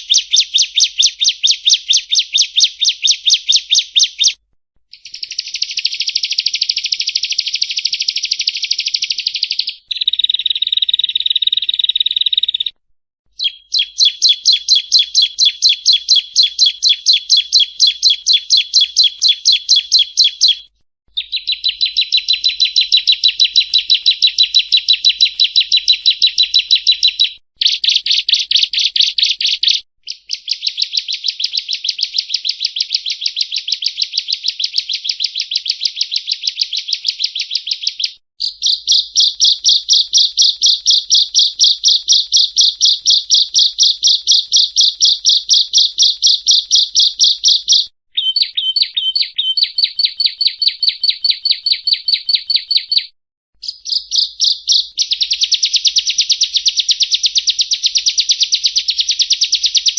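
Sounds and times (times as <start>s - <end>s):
bird singing rapid high chirps: 0.0s - 59.9s.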